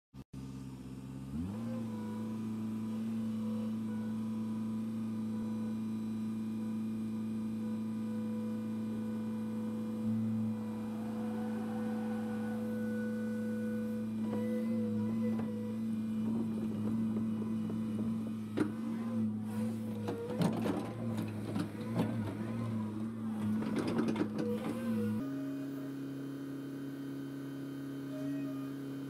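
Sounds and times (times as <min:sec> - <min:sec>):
excavator diesel engine running: 0:00.5 - 0:29.0.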